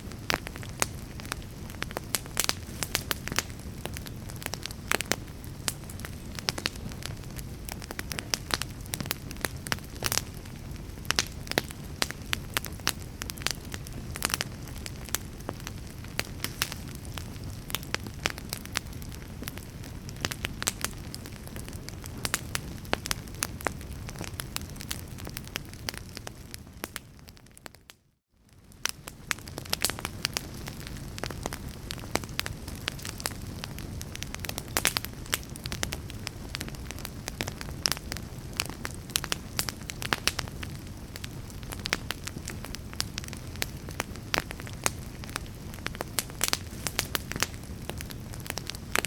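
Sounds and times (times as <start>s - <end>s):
fire crackling: 0.0s - 49.0s.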